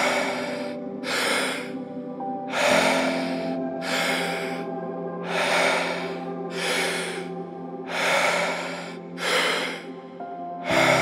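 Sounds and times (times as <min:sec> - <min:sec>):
ambient music drone: 0:00.0 - 0:11.0
person breathing deeply: 0:00.0 - 0:11.0.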